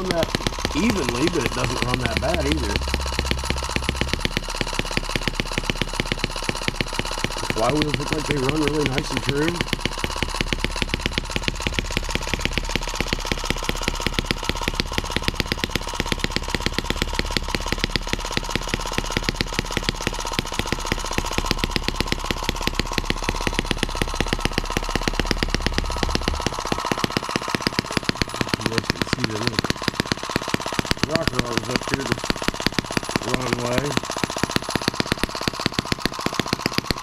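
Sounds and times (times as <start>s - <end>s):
model engine running: 0.0s - 37.0s.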